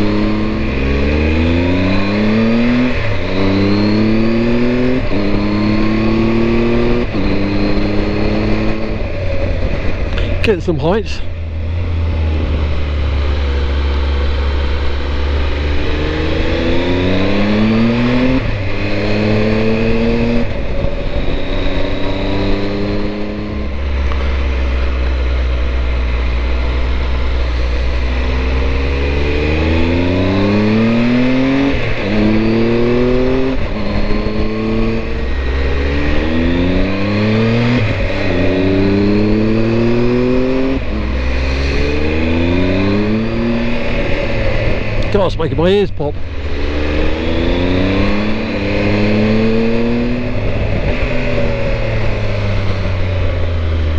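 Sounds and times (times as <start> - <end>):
motorcycle engine revving uphill: 0.0 - 53.9
wind rumble on microphone: 0.0 - 53.9.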